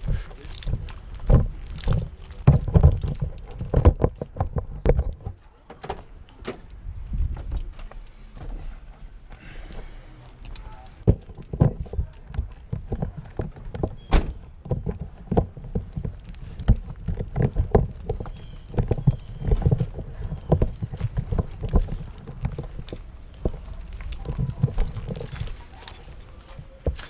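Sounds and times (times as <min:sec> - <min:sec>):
irregular knocks and clunks: 0:00.0 - 0:08.6, 0:11.0 - 0:25.8.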